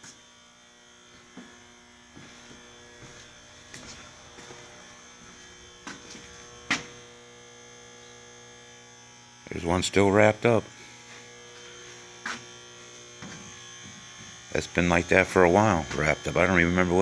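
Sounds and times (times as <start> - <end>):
steady electrical buzz: 0.0 - 17.0.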